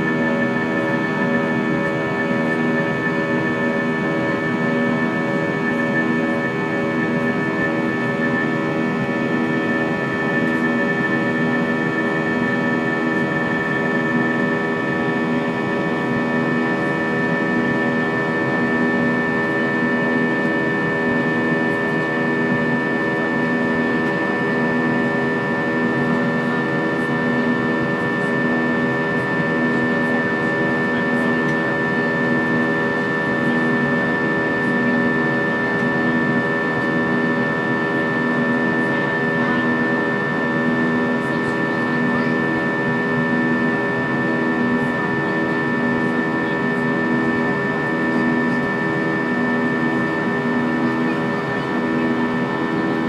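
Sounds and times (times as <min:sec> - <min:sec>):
jet engine drone in cabin: 0:00.0 - 0:53.0.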